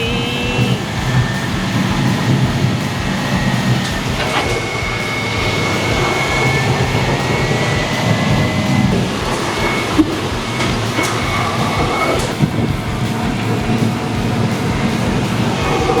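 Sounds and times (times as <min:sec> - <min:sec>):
truck engine rumbling and rattling: 0:00.0 - 0:16.0.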